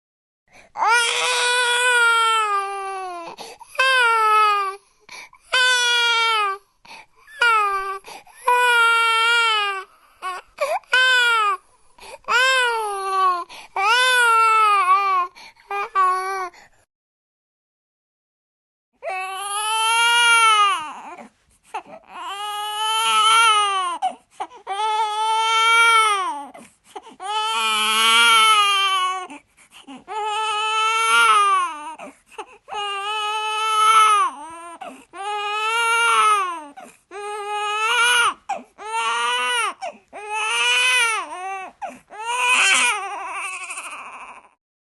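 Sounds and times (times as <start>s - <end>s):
baby crying: 0.8s - 4.8s, 5.5s - 6.6s, 7.3s - 11.6s, 12.2s - 16.5s, 19.0s - 26.6s, 27.2s - 44.6s.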